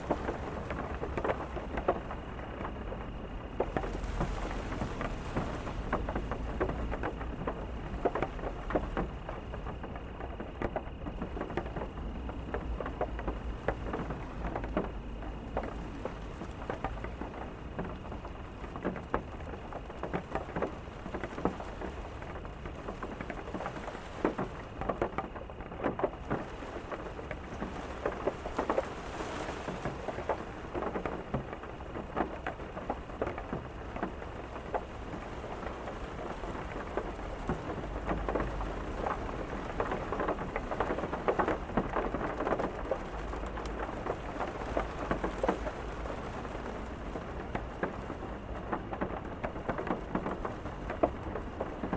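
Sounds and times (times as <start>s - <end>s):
low rumble of thunder: 0.0s - 51.9s
rain striking a hard surface: 0.0s - 51.9s.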